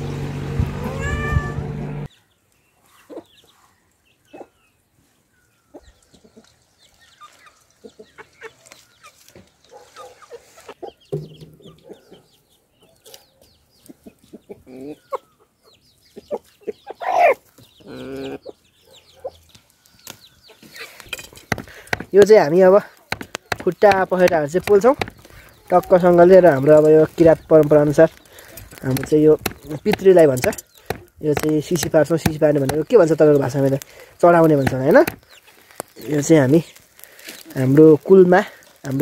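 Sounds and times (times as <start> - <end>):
chicks peeping: 1.0 - 39.0
chickens clucking: 2.8 - 4.8, 5.4 - 39.0.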